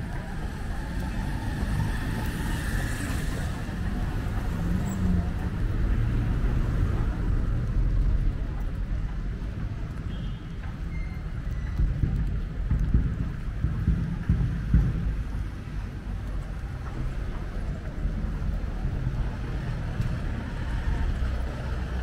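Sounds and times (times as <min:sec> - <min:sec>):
low street rumble: 0:00.0 - 0:22.0.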